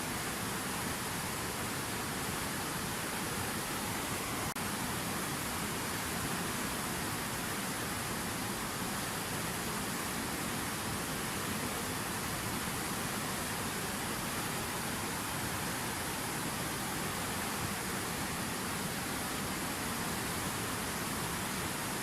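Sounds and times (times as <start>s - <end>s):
fountain water cascading: 0.0s - 22.0s.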